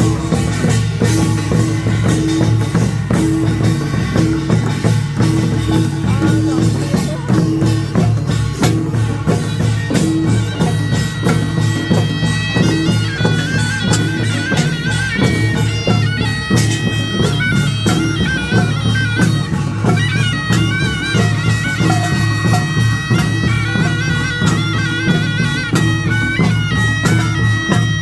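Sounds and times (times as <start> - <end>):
drums and percussion beat: 0.0 - 28.0
shawm playing nasal melody: 0.0 - 28.0.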